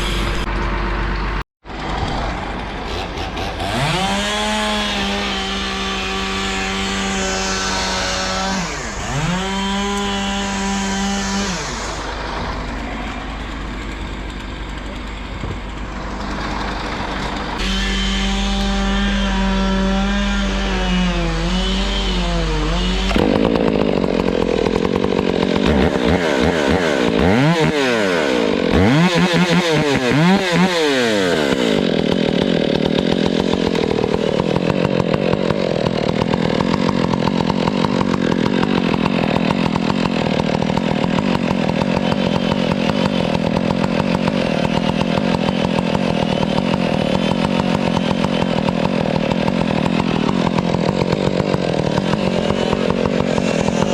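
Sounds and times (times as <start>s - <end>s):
chainsaw cutting palm trunk: 1.7s - 53.9s
chainsaw engine revving: 1.7s - 53.9s.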